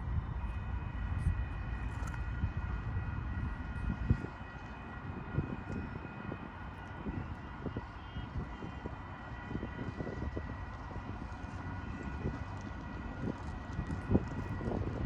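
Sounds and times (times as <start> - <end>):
freight train running: 0.0 - 15.0.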